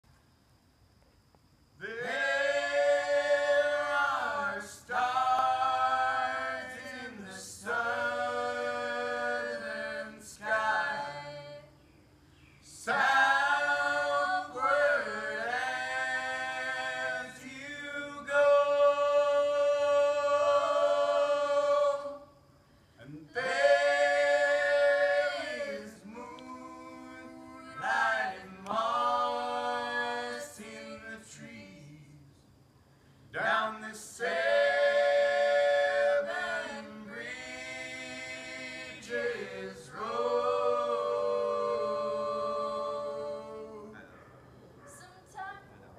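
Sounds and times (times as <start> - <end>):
group singing a cappella: 1.8 - 32.6, 33.3 - 44.1.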